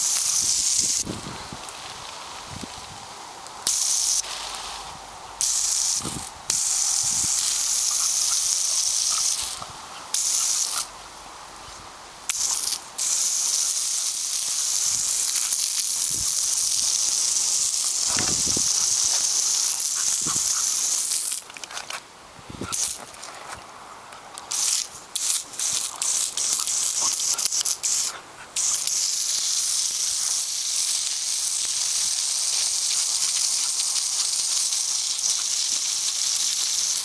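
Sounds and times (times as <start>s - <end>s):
loud steady hiss: 0.0s - 37.0s.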